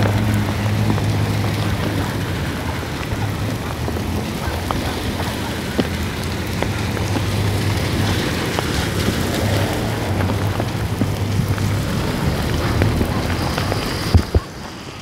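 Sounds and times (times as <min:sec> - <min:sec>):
cars driving through water: 0:00.0 - 0:15.0
heavy rain on wet road: 0:00.0 - 0:15.0
rain drops ticking: 0:00.0 - 0:15.0.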